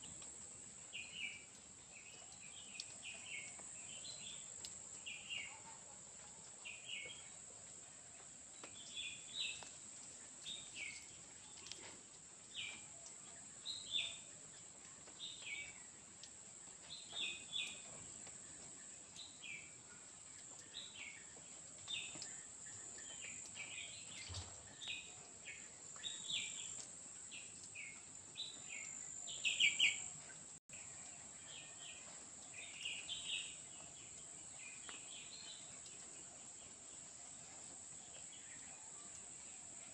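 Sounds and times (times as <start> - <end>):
bird chirping: 0.8 - 5.8, 8.2 - 16.0, 16.8 - 39.9.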